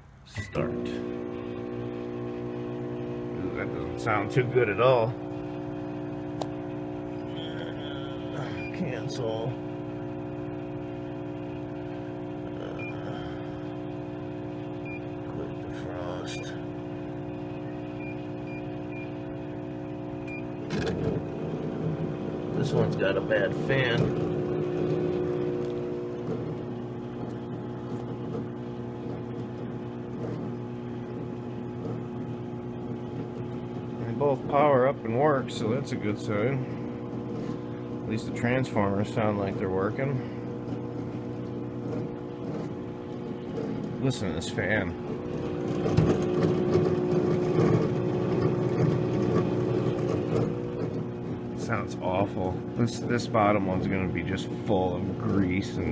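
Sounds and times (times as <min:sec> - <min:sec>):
cooling fans droning: 0:00.0 - 0:55.9
transformer hum: 0:00.0 - 0:55.9.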